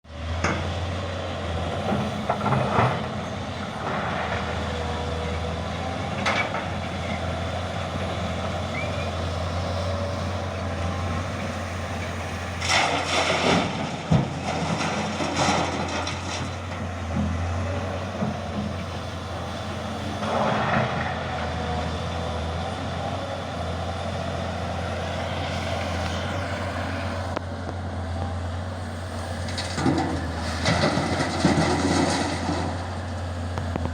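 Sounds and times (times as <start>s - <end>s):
diesel construction machinery running: 0.0s - 33.9s.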